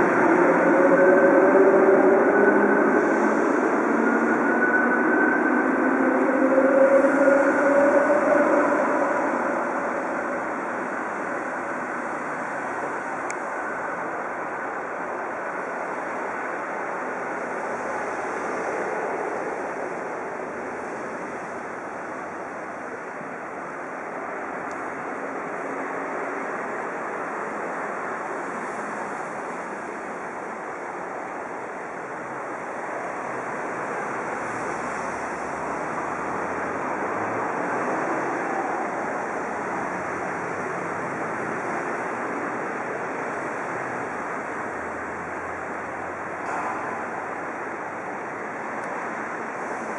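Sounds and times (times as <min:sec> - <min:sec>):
train rushing noise: 0:00.0 - 0:49.9.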